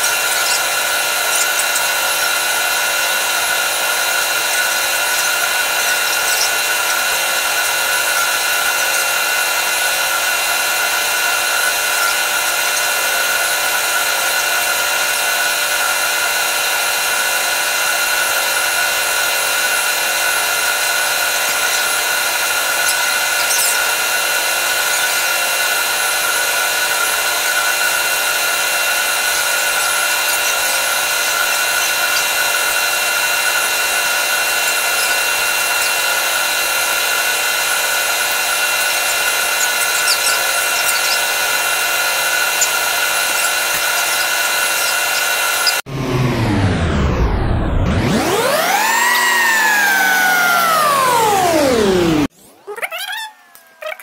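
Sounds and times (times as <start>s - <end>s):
machinery whining: 0.0s - 52.6s.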